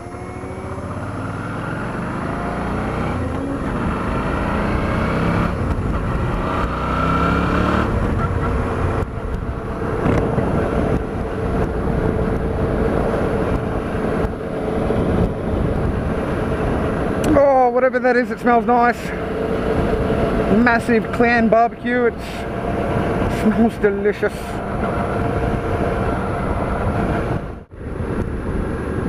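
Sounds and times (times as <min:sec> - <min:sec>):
motorcycle engine accelerating: 0:00.0 - 0:17.6, 0:18.8 - 0:21.4, 0:22.2 - 0:29.0
road and wind rumble: 0:00.0 - 0:29.0.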